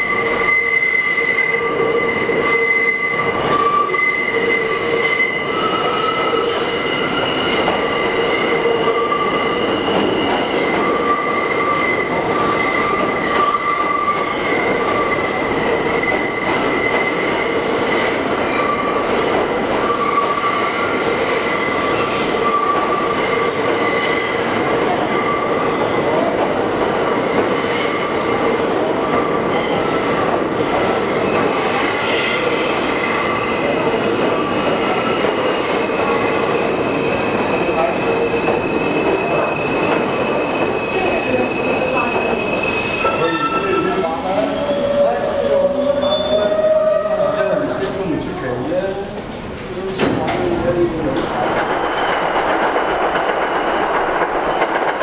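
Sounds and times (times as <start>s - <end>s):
subway train rumbling on rails: 0.0s - 55.0s.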